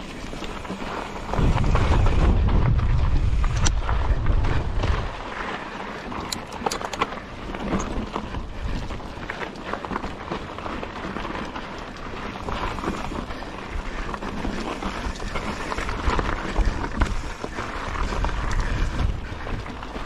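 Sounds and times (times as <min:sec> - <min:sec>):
wind on microphone: 0:00.0 - 0:09.3, 0:12.3 - 0:20.0
bike clattering: 0:00.0 - 0:20.0
tyres crunching on gravel: 0:00.0 - 0:20.0.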